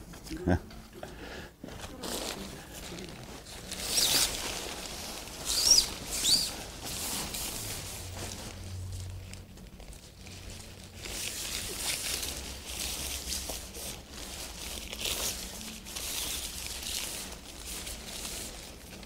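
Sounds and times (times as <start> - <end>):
tent fabric rustling: 1.7 - 19.0.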